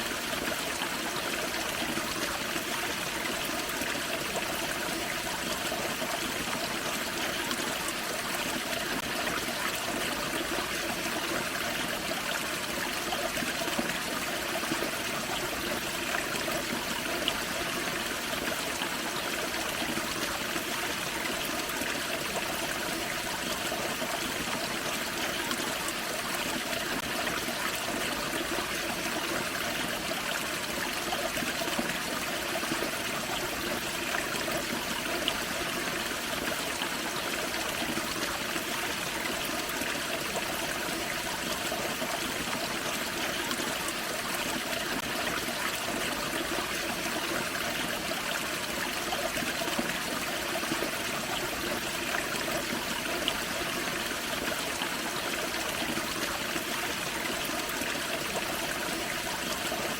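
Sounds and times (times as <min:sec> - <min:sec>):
creek water trickling: 0:00.0 - 0:59.9.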